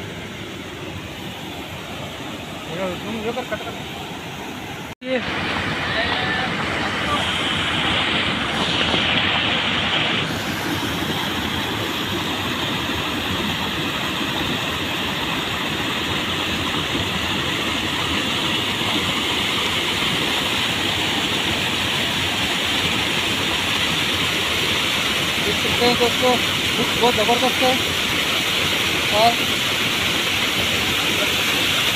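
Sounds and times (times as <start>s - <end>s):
water rushing over a weir: 0.0s - 31.9s.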